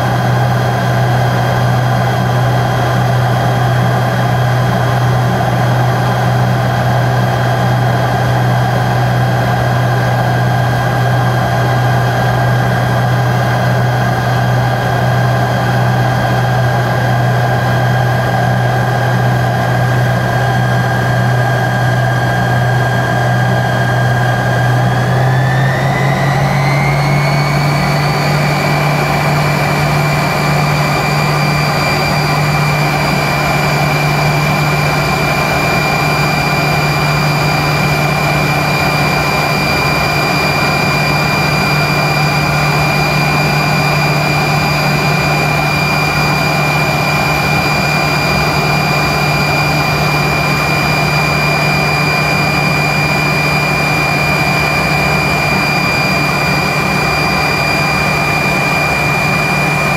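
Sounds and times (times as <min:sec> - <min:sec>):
jet engines whining: 0:00.0 - 0:59.9
low hum and rushing noise: 0:00.0 - 0:59.9.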